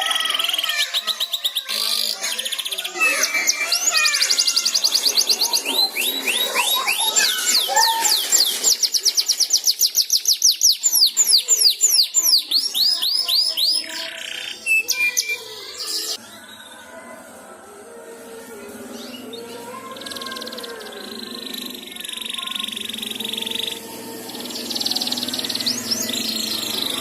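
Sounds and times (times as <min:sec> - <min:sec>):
canary singing trills: 0:00.0 - 0:16.9, 0:18.9 - 0:27.0.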